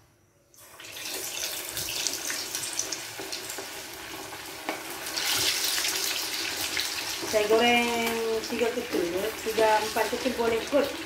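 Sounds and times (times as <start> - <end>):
chicken deep-frying in oil: 0.5 - 11.0.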